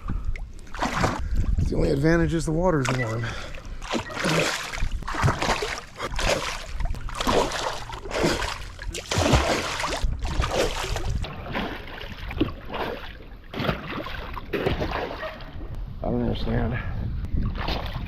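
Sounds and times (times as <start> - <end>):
water sloshing and splashing: 0.0 - 15.8, 17.4 - 18.0.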